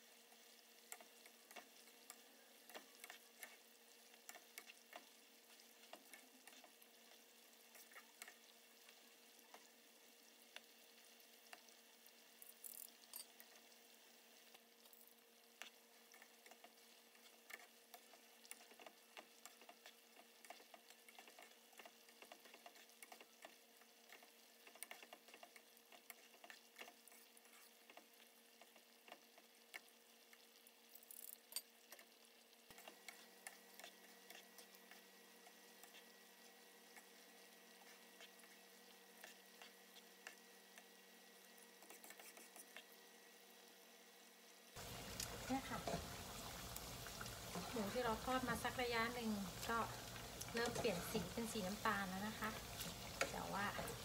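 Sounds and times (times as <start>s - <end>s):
meat deep-frying in oil: 0.0s - 54.0s.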